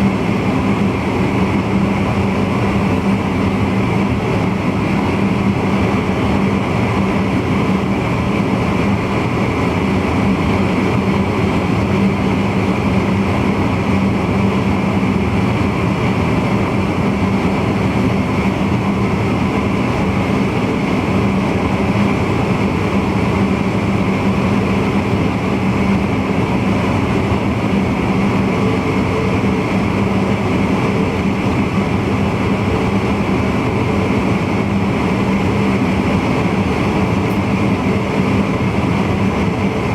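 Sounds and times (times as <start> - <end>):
constant low hum: 0.0 - 39.9
electric train running: 0.0 - 39.9.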